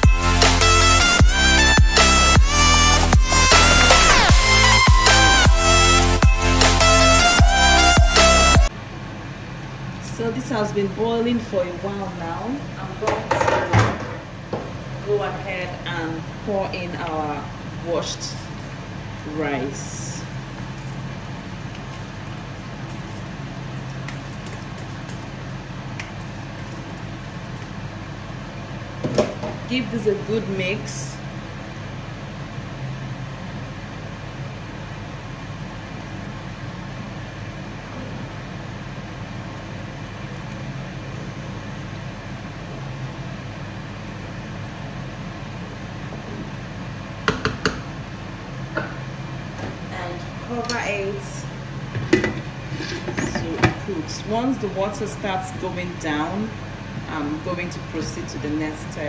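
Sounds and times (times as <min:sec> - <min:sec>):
low steady hum: 0:00.0 - 0:59.0
pot boiling and bubbling: 0:08.7 - 0:59.0.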